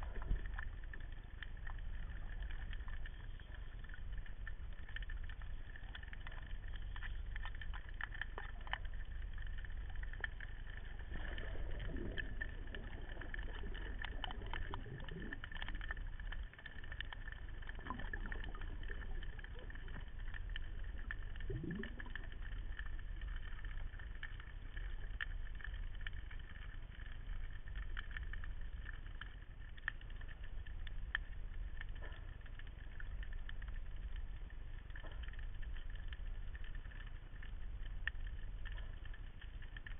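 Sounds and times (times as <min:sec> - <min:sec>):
clicks and crackles: 0:00.0 - 0:39.9
low underwater rumble: 0:00.0 - 0:39.9.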